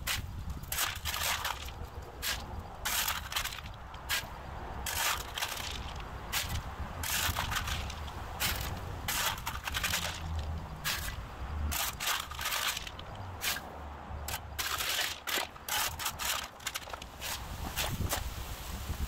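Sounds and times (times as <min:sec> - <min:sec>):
shovel scraping concrete: 0:00.0 - 0:18.3.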